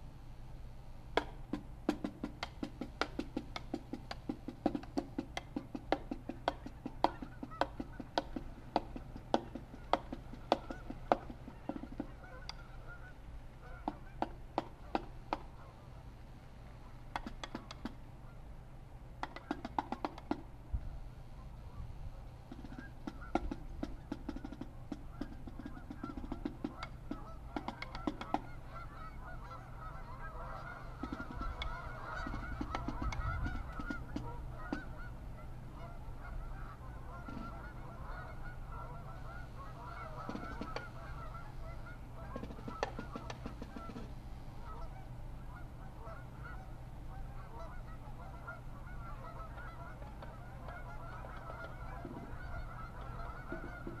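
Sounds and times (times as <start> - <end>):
distant snare drum strokes: 0.8 - 18.4, 19.2 - 54.0
geese honking: 1.0 - 54.0.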